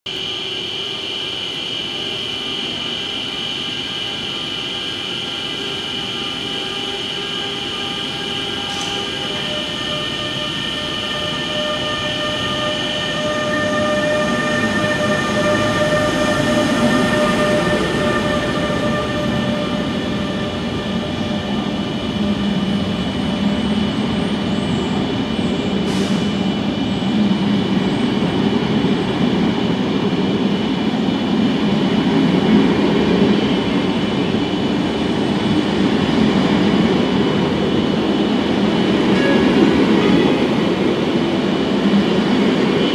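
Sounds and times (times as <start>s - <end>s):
electric locomotive whine: 0.1s - 42.9s
train rolling rumble: 2.0s - 42.9s.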